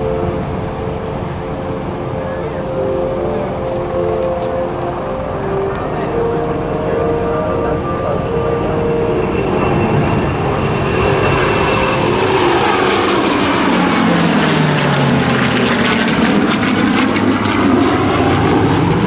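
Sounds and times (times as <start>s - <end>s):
aircraft flying past overhead: 0.0s - 19.0s.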